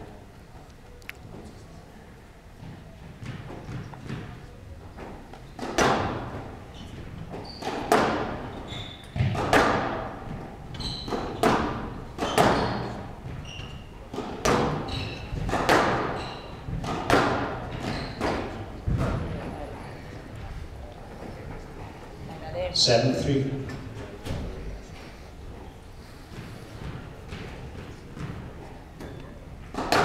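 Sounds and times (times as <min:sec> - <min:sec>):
shoes squeaking on floor: 0:02.6 - 0:09.5, 0:10.2 - 0:22.5, 0:25.0 - 0:30.0.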